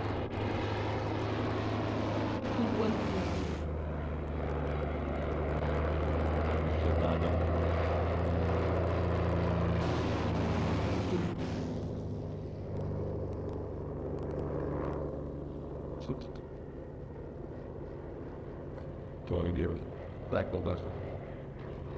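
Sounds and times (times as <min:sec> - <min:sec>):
propeller aircraft engine running: 0:00.0 - 0:21.9.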